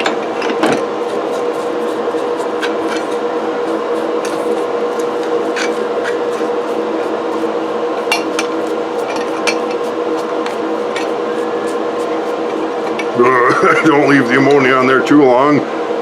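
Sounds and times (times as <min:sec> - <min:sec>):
brush scrubbing cast iron: 0:00.8 - 0:14.8.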